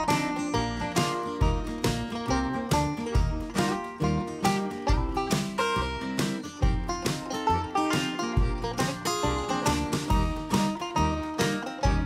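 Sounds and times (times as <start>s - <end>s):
bluegrass instrumental music: 0.0s - 12.0s.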